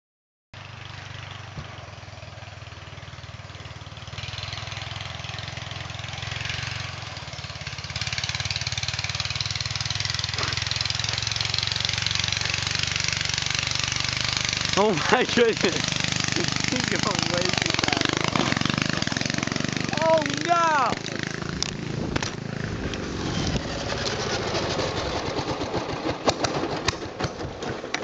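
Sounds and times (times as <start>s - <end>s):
riding lawn mower engine: 0.6s - 28.0s.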